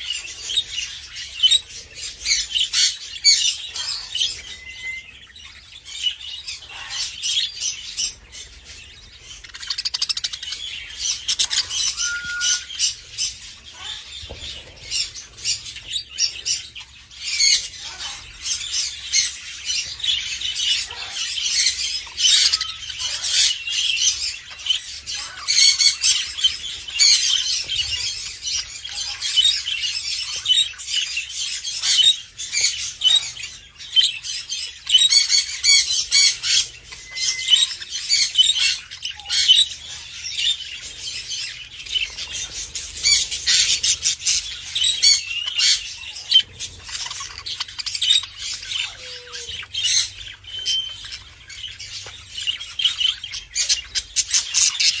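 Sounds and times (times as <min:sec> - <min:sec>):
chicks chirping and squawking: 0:00.0 - 0:55.0.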